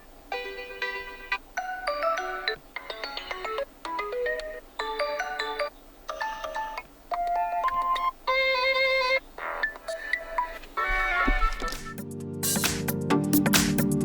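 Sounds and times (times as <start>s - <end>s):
electronic phone ringtone: 0.4s - 12.0s.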